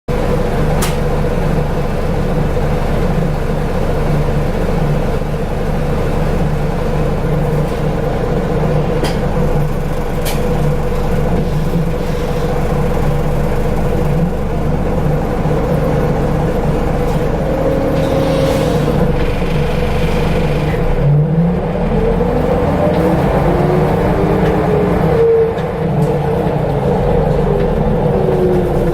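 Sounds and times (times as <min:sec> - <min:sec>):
bus diesel engine droning: 0:00.1 - 0:28.9
gearbox whining: 0:04.3 - 0:28.9.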